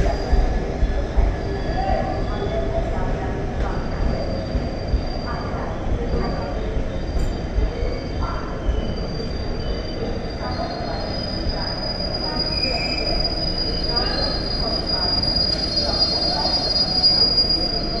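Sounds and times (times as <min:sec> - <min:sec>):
low train rumble: 0:00.0 - 0:18.0
train brakes squealing: 0:00.0 - 0:18.0.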